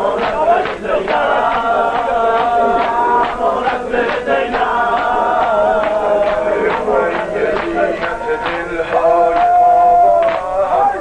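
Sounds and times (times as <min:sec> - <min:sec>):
steady beat: 0:00.0 - 0:09.8
men chanting devotional song: 0:00.0 - 0:11.0.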